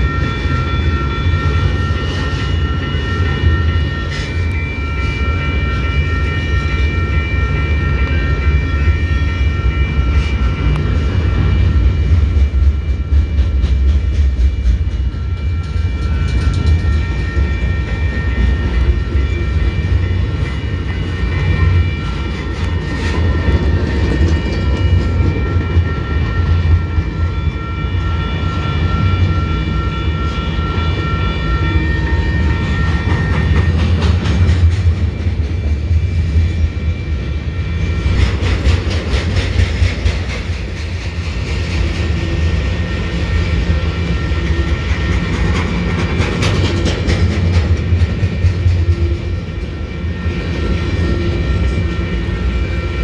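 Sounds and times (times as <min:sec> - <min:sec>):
freight train rumbling past: 0:00.0 - 0:53.0
high steady squeal: 0:00.0 - 0:53.0.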